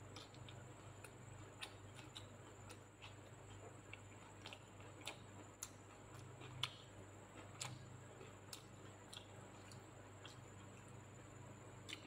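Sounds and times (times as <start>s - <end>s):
person chewing with mouth clicks: 0.0s - 11.0s, 11.8s - 12.0s
faint steady hum: 0.0s - 12.0s.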